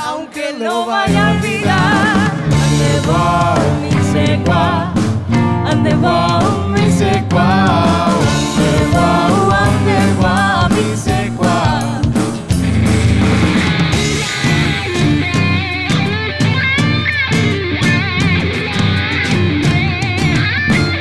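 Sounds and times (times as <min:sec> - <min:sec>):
live pop-rock band: 0:00.0 - 0:21.0.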